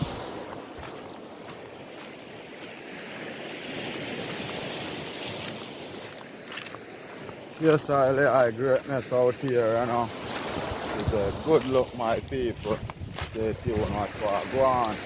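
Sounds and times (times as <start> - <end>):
sea surf washing on shore: 0.0 - 15.0.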